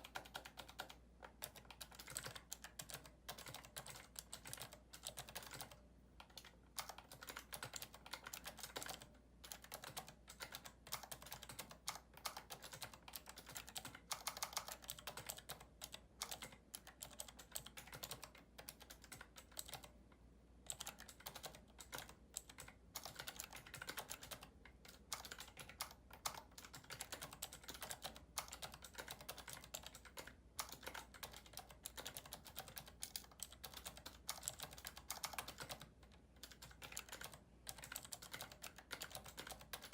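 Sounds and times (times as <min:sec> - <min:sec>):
clicky keyboard typing: 0:00.0 - 0:39.9.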